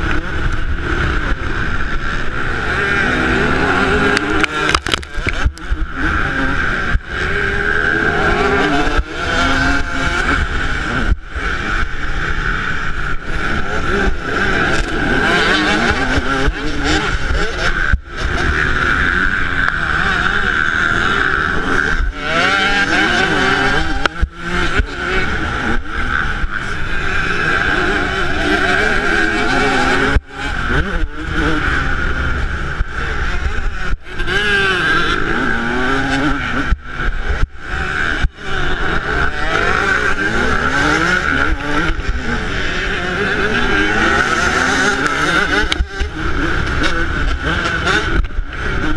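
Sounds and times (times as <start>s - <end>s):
two-stroke engine revving: 0.0s - 48.9s.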